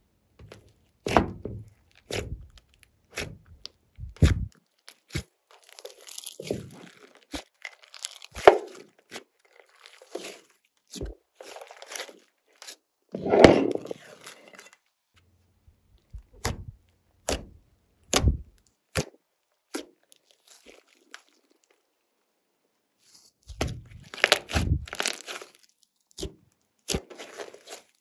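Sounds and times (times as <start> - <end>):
slime crackling and squishing: 0.4 - 14.9, 16.2 - 22.1, 23.0 - 28.0.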